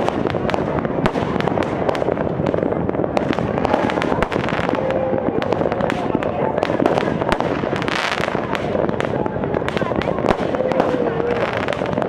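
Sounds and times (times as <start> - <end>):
dense rumble: 0.0 - 12.0
fireworks bangs: 0.0 - 12.0.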